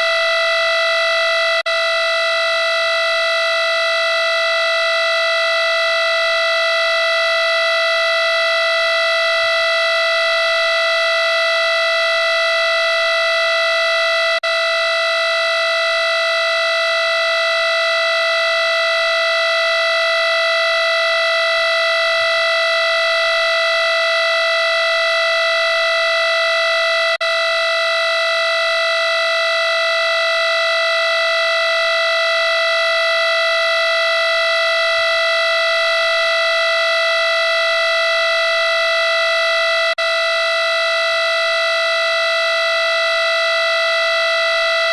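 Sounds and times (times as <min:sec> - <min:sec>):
harsh steady electronic tone: 0:00.0 - 0:44.9.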